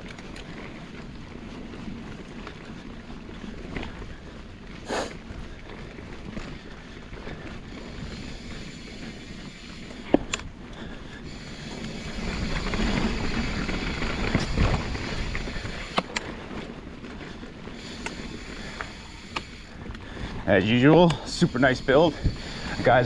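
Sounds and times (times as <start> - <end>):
bike tyre and wind rush: 0.0 - 23.0.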